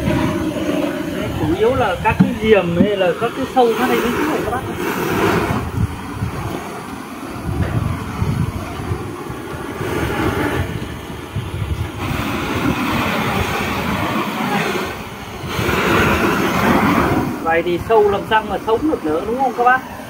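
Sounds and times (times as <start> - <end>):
butane torch flame rushing: 0.0 - 20.0.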